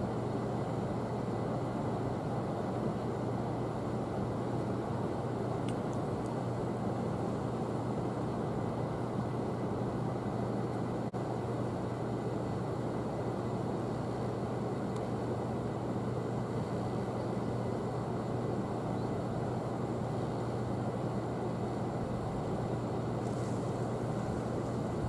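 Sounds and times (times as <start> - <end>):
ship diesel engine drone: 0.0 - 25.0.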